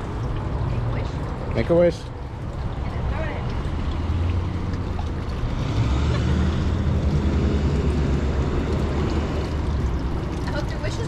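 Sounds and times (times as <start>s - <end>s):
fountain water running: 0.0s - 11.0s.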